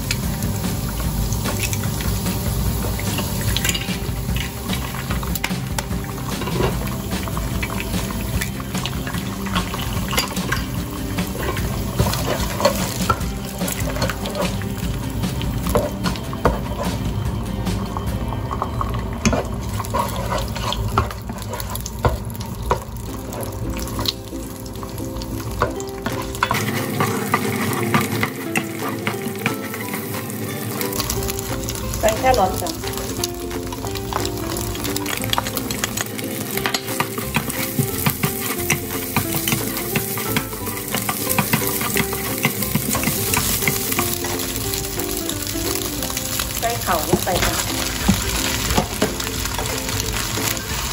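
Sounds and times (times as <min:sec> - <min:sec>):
eggs sizzling in hot oil: 0:00.0 - 0:50.9
spatula scraping and knocking pot: 0:00.1 - 0:50.9.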